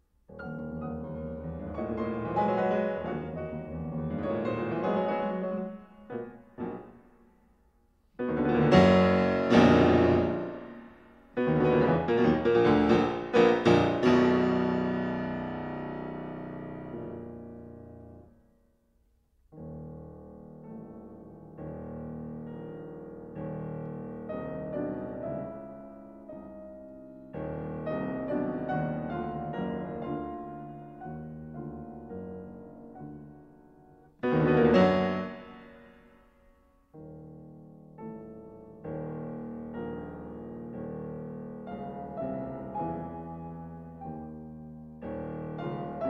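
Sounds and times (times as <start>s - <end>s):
slow solo piano: 0.0s - 18.6s, 19.5s - 46.0s.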